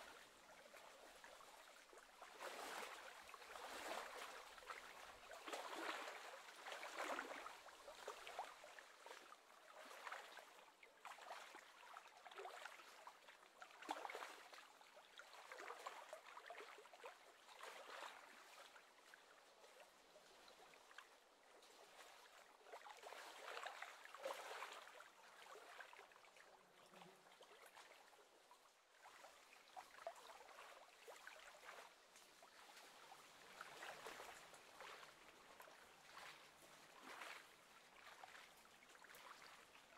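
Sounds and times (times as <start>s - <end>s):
small waves lapping on lake: 0.0s - 39.9s.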